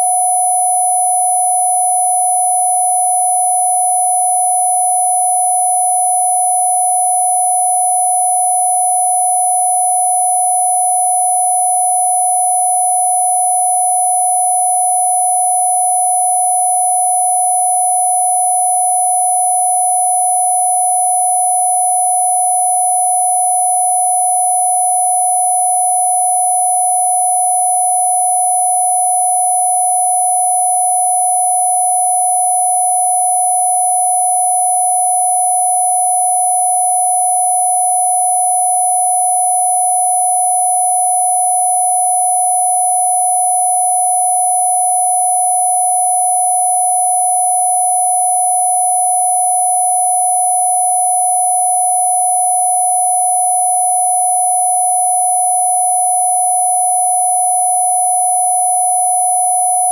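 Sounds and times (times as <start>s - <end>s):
pure sine tone: 0.0s - 59.9s.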